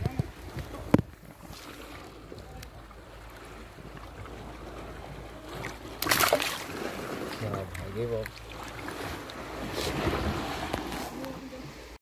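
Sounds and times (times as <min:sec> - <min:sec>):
water sloshing: 0:00.0 - 0:12.0.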